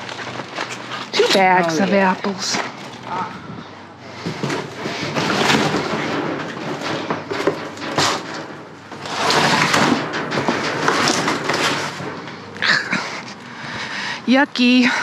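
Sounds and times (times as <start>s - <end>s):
trash bags rustling and crackling: 0.0s - 14.1s.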